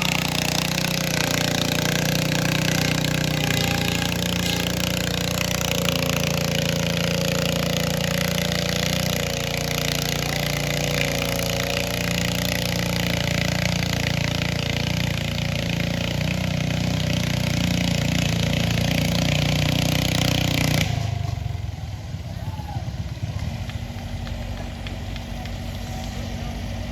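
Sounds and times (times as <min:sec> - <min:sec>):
tractor engine under load: 0:00.0 - 0:26.9.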